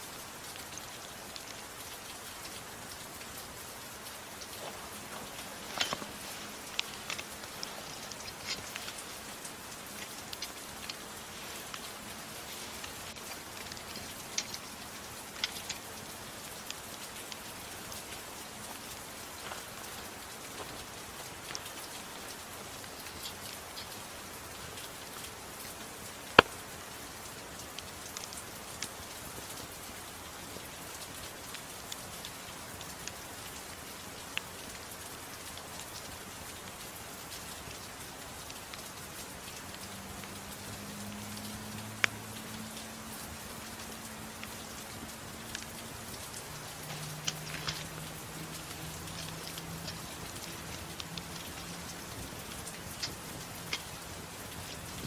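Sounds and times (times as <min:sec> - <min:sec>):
soft rain hiss: 0:00.0 - 0:55.0
wood fire crackling and popping: 0:00.2 - 0:35.0, 0:42.0 - 0:55.0.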